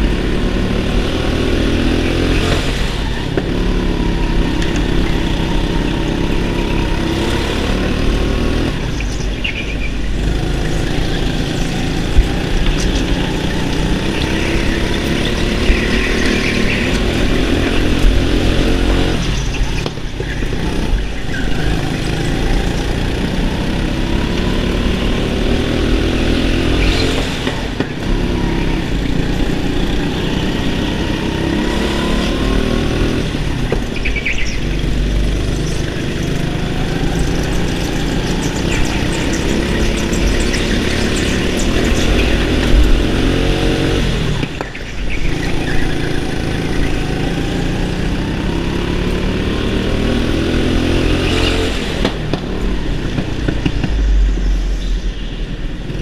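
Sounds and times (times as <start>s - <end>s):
go-kart engine accelerating: 0.0s - 56.0s.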